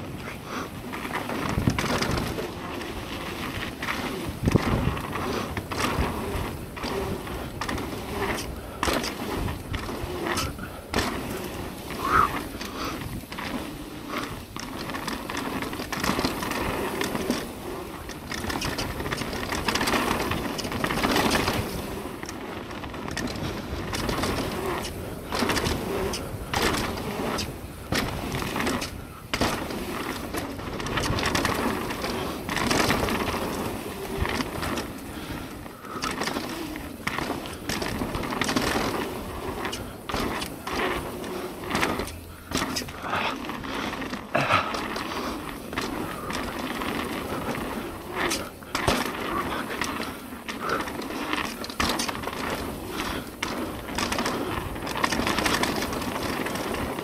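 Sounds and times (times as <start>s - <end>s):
bike knocks and rattles: 0.0s - 57.0s
bike tyres rolling on dirt: 0.0s - 57.0s.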